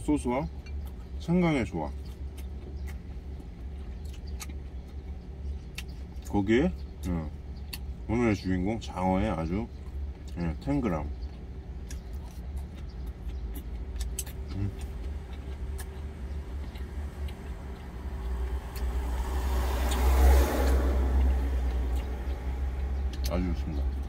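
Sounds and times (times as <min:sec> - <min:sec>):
low engine rumble: 0:00.0 - 0:24.0
road vehicle passing: 0:00.1 - 0:24.0.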